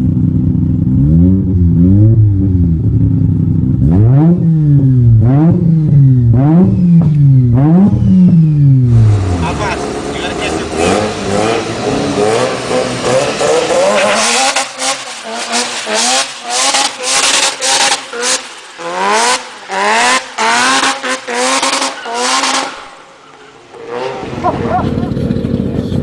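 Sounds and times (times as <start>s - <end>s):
rotary engine revving: 0.9s - 26.0s.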